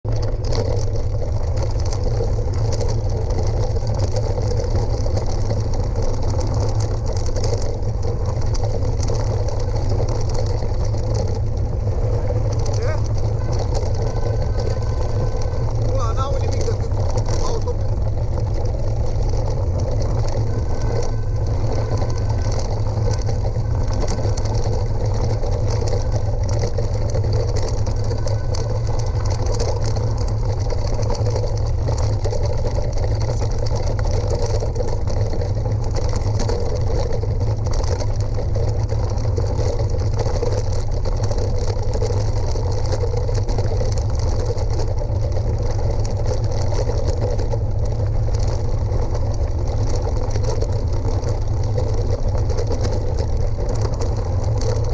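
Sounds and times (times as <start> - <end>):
bike tyres rolling on gravel: 0.0 - 54.9
wind rumble on microphone: 0.0 - 54.9.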